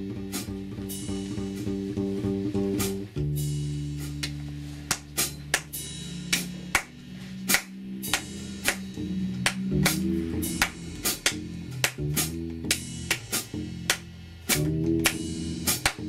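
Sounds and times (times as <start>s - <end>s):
drum and cymbal hits: 0.0s - 16.0s
low plucked strings: 0.0s - 16.0s.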